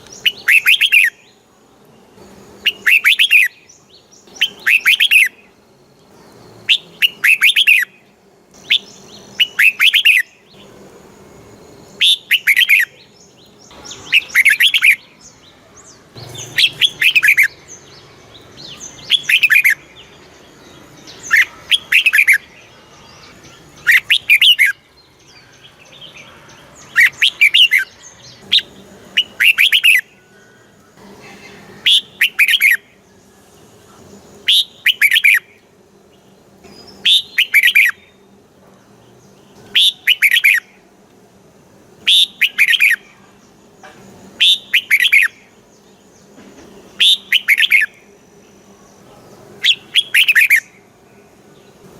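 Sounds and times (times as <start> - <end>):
bird song whistled notes: 0.0 - 1.4, 2.0 - 5.6, 6.2 - 10.8, 11.7 - 38.3, 39.3 - 40.8, 42.0 - 50.9.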